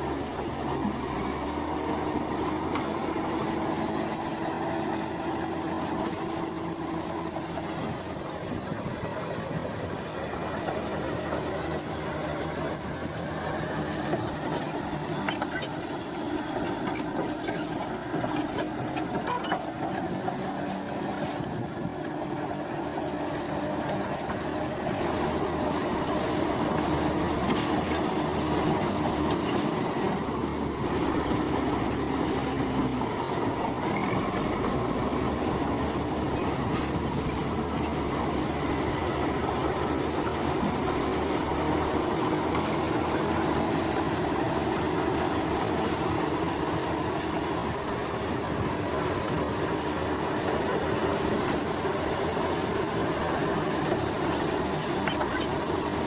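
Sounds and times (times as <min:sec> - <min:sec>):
bulldozer engine running: 0:00.0 - 0:56.0
steel tracks clattering and squealing: 0:00.0 - 0:56.0.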